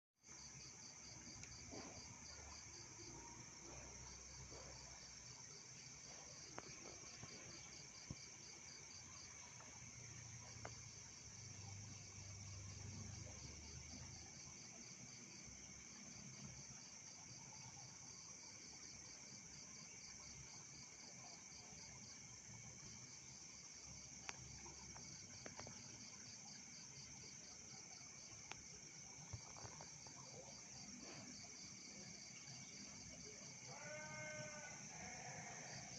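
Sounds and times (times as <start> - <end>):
crickets chirping: 0.2 - 35.9.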